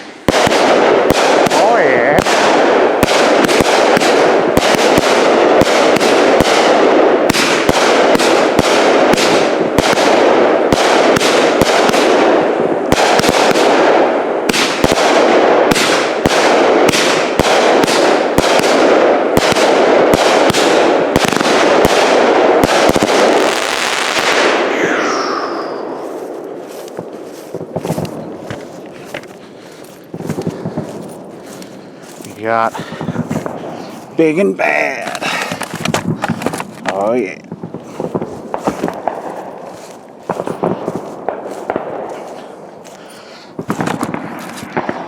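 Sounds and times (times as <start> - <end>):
firework crackle: 0.0 - 45.0.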